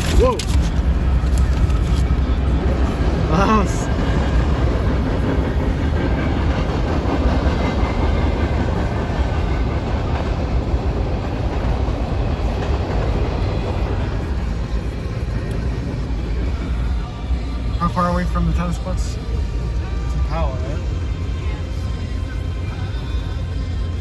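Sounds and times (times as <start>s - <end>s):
freight train wheels on track: 0.0s - 24.0s.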